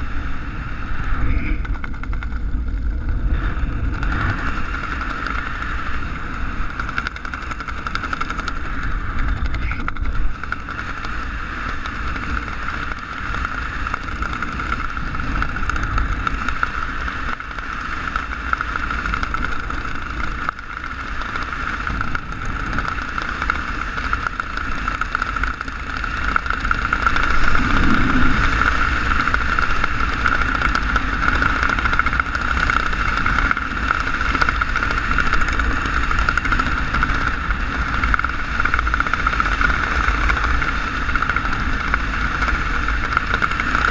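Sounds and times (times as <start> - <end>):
constant high hum: 0.0 - 43.9
wind buffeting: 0.0 - 43.9.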